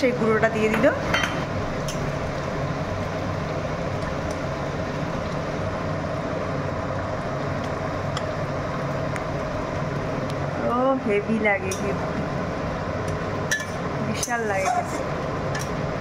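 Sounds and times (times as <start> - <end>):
low hum and rush: 0.0 - 16.0.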